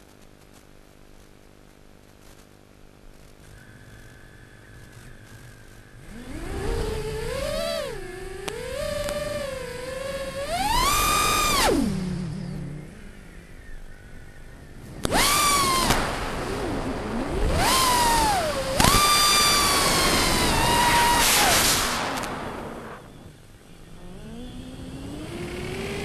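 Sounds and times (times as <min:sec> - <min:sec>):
quadcopter motors whining: 0:03.3 - 0:26.0.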